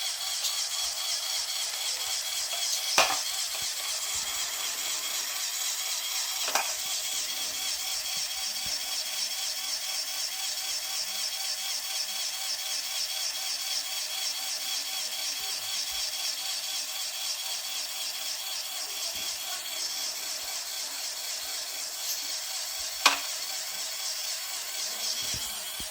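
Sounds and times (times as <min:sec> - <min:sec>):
toy motor and gears whirring: 0:00.0 - 0:25.9.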